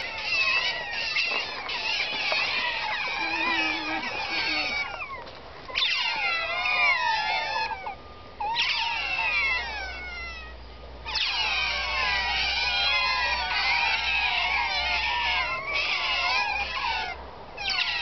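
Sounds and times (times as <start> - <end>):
otters squealing and chirping: 0.0 - 18.0.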